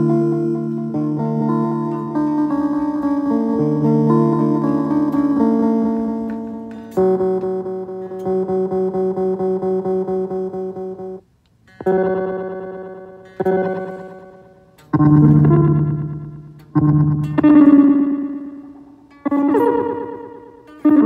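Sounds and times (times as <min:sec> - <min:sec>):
guitar chords with echo: 0:00.0 - 0:21.0
pulsing guitar chord: 0:00.0 - 0:21.0.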